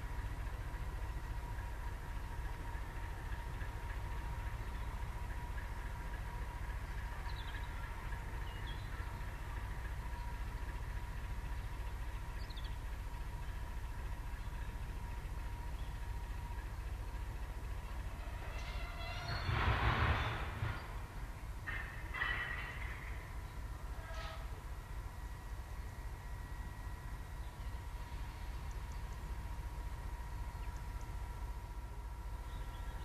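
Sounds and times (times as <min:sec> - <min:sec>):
locomotive diesel engine rumble: 0:00.0 - 0:33.0
thin constant whine: 0:00.0 - 0:33.0.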